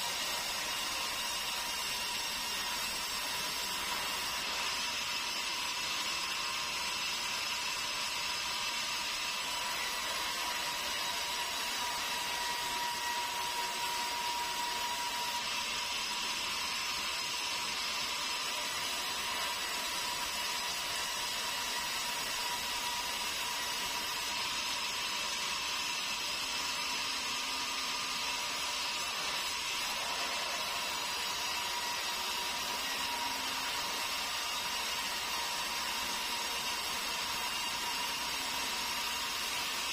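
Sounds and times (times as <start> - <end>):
sawmill saw whirring: 0.0 - 39.9.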